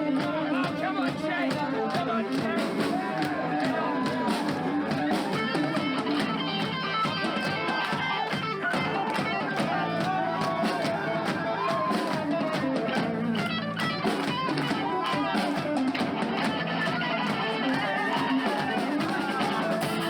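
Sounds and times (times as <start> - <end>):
electric guitar: 0.0 - 20.0
live band music: 0.0 - 20.0
steady drum beat: 0.0 - 20.0.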